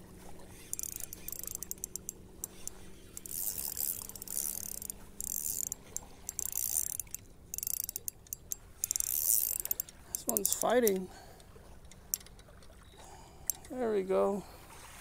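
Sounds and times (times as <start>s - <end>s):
fishing reel ratcheting and clicking: 0.6s - 12.7s, 13.4s - 13.8s.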